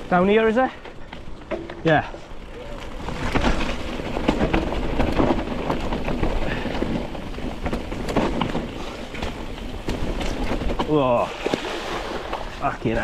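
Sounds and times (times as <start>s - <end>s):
bike rattling and knocking: 0.0s - 13.0s
bike tyres on dirt trail: 0.0s - 13.0s.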